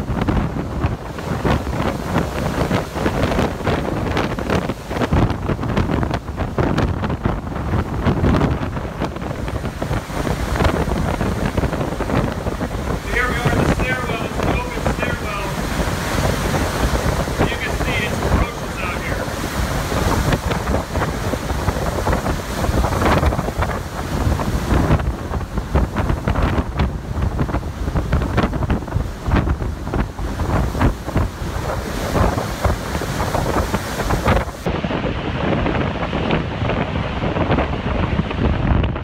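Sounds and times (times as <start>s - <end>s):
strong wind gusts: 0.0s - 39.0s
wind buffeting microphone: 0.0s - 39.0s.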